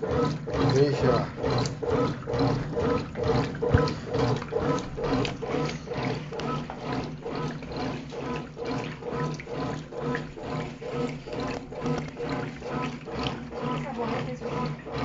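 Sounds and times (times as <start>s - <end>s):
motor hum: 0.0s - 15.0s
washing machine agitator swishing water: 0.0s - 15.0s.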